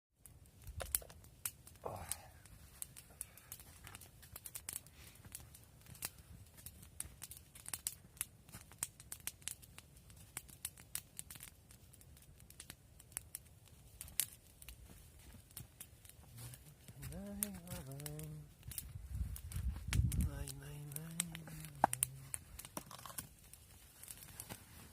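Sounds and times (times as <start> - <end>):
campfire crackling and popping: 0.2 - 24.9.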